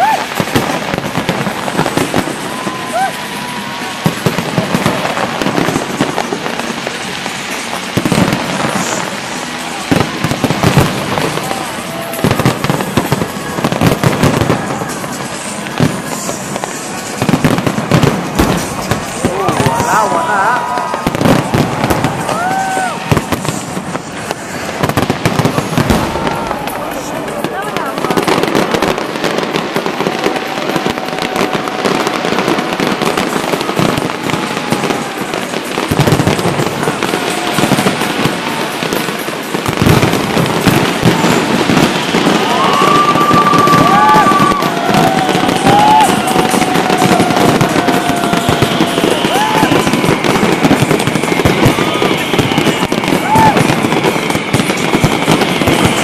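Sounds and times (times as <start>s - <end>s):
fireworks bangs and crackles: 0.0s - 56.0s
heavy fireworks booms: 0.0s - 56.0s.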